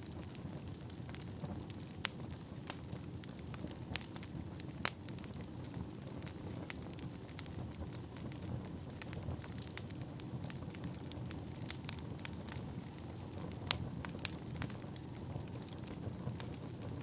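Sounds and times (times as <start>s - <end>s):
fire popping: 0.0s - 17.0s
firewood crackling: 0.0s - 17.0s.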